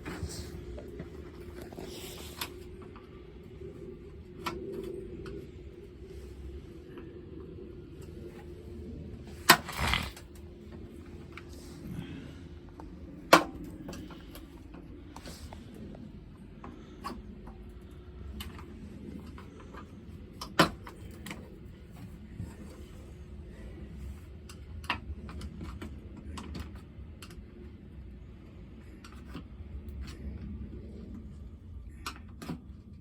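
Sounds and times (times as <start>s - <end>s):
low steady rumble: 0.0s - 33.0s.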